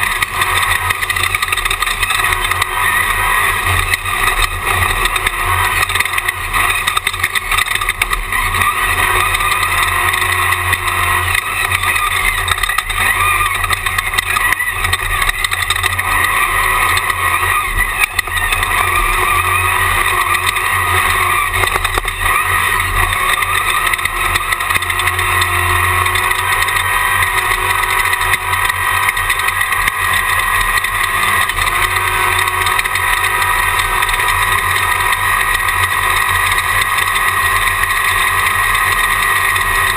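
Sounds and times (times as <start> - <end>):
loud engine and wind din: 0.0 - 39.9.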